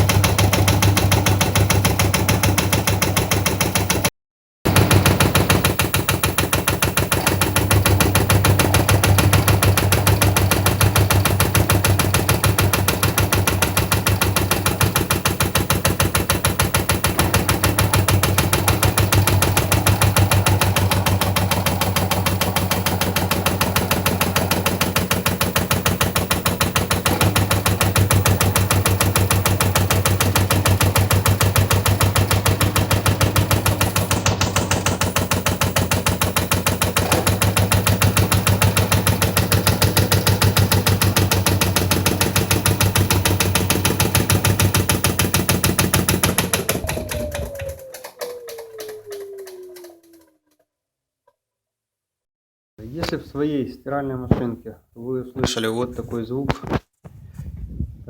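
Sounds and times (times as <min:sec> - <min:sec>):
washing machine drum knocking: 0:00.0 - 0:04.1, 0:04.7 - 0:50.2.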